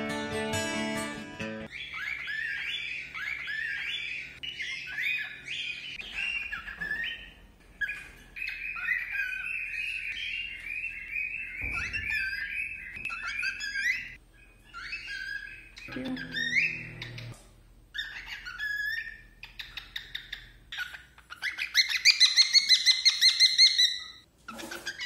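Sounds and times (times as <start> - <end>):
cockatiel chirping: 1.7 - 25.0.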